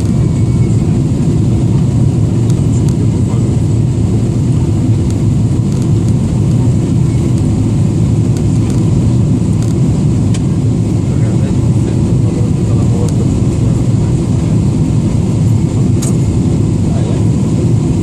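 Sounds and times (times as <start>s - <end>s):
airplane cabin roar: 0.0s - 18.0s.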